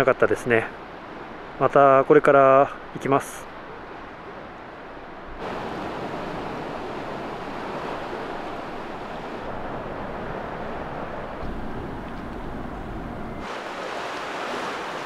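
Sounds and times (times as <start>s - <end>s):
sea surf washing on shore: 0.0s - 15.0s
wind: 0.0s - 15.0s.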